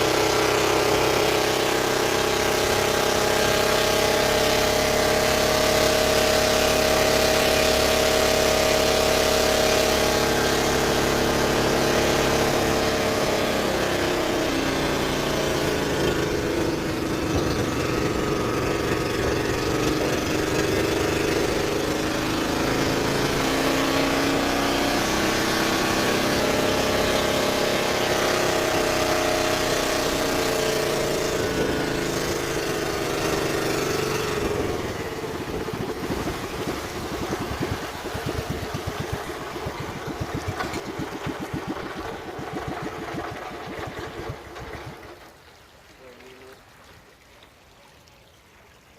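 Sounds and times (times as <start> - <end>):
boat engine running: 0.0 - 46.5.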